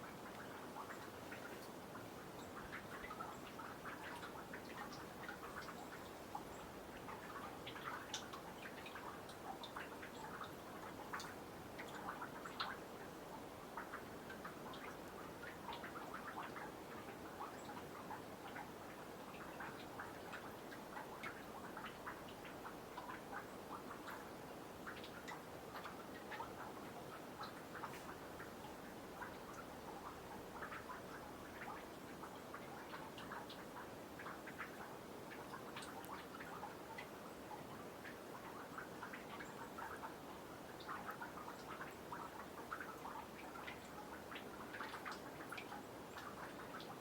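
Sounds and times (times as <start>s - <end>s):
meltwater dripping into pond: 0.0s - 47.0s.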